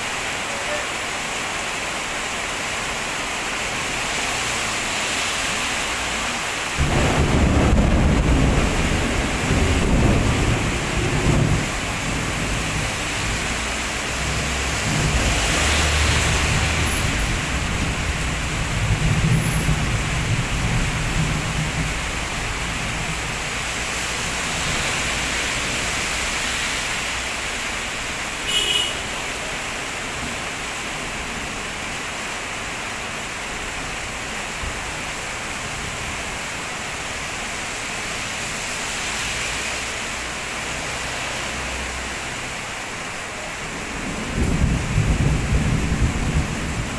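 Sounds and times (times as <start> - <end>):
heavy rain on road: 0.0 - 46.9
vehicles hissing on wet road: 0.0 - 46.9.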